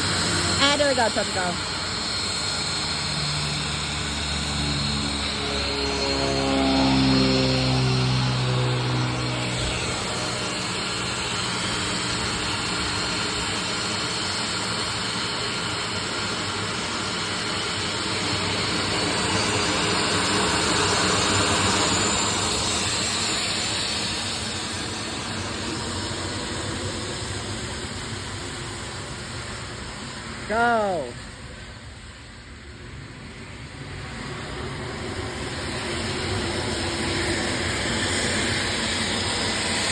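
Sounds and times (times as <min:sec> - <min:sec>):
aircraft engine rushing: 0:00.0 - 0:39.9.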